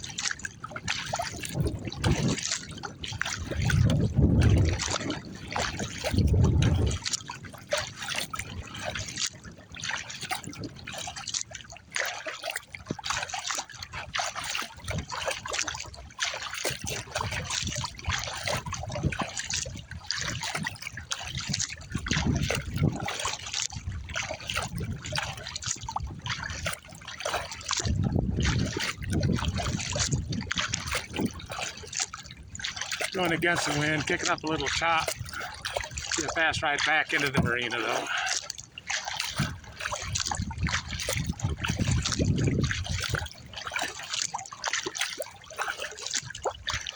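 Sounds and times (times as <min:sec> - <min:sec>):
wind rumbling on microphone: 0:00.0 - 0:11.2, 0:13.9 - 0:16.1, 0:16.7 - 0:44.4
water lapping at plastic hull: 0:00.0 - 0:46.9
water splashing off paddle: 0:00.0 - 0:46.9.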